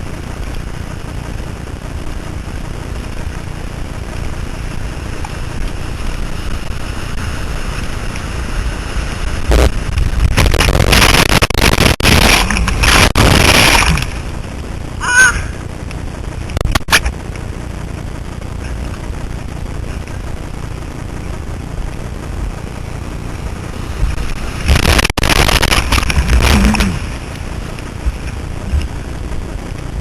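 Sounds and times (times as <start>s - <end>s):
loud rush of noise: 0.0s - 30.0s
ocean surf: 0.0s - 30.0s
wind noise on microphone: 0.0s - 30.0s.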